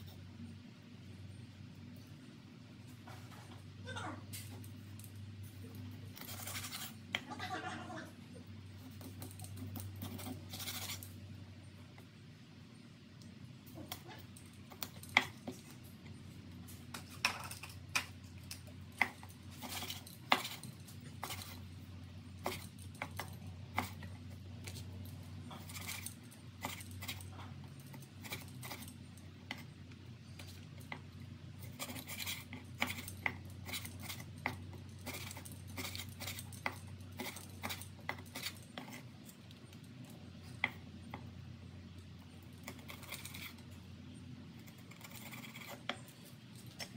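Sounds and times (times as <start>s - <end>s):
faint low hum: 0.0s - 46.9s.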